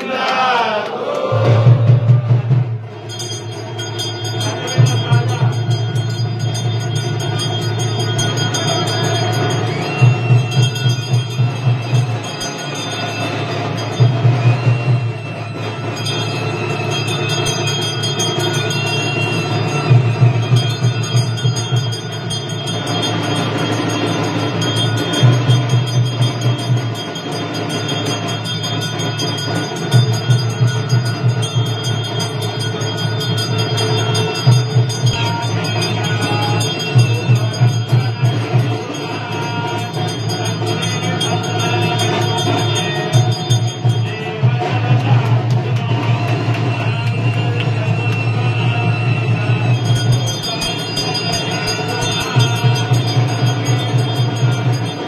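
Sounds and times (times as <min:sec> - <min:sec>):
rapid loud drumming: 0:00.1 - 0:55.0.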